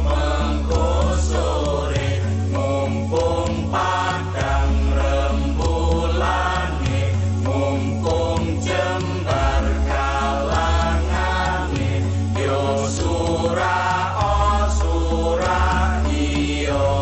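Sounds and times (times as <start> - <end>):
chanted singing: 0.0 - 17.0
sustained bass notes: 0.0 - 17.0.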